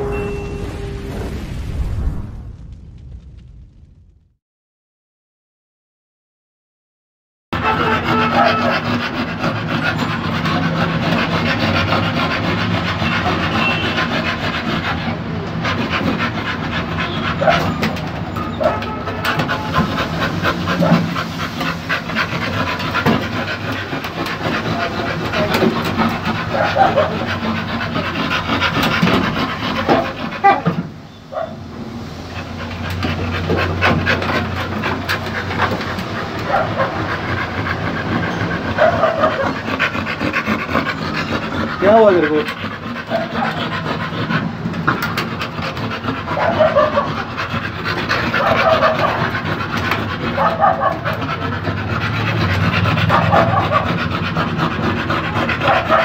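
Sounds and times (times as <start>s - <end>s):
claws scraping on wooden boards: 7.6s - 30.9s, 32.6s - 56.0s
dogs panting: 7.6s - 56.0s.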